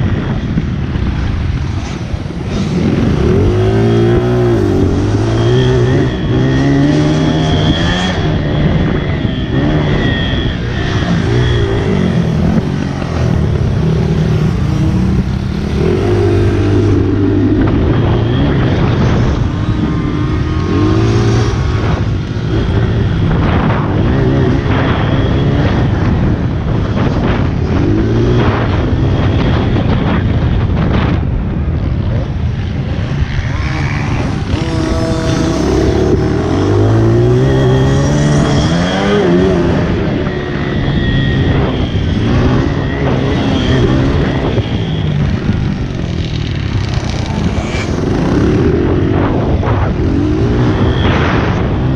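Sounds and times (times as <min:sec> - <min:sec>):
small motorbike engine revving: 0:02.2 - 0:26.1, 0:32.5 - 0:51.9.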